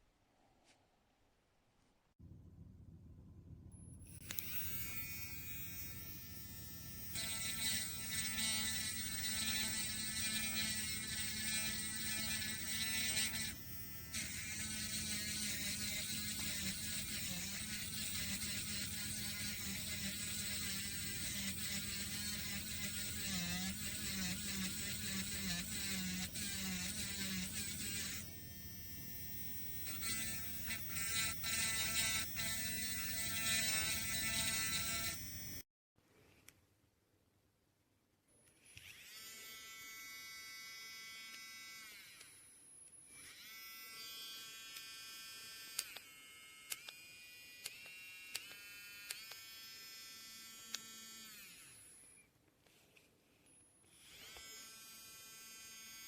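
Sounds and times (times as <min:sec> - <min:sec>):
electric nail drill whine: 0:03.8 - 0:35.7, 0:38.7 - 0:52.2, 0:53.5 - 0:56.0.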